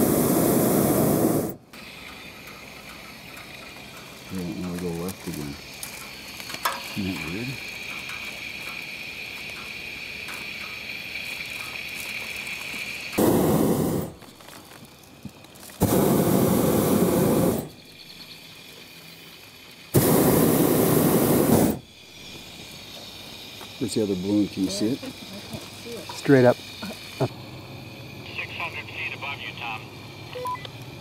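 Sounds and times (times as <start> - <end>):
propane burner firing: 0.0 - 31.0.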